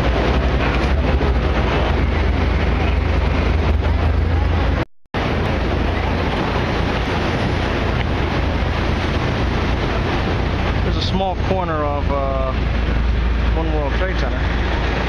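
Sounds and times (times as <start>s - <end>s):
city street noise: 0.0s - 15.0s
wind buffeting microphone: 0.0s - 15.0s.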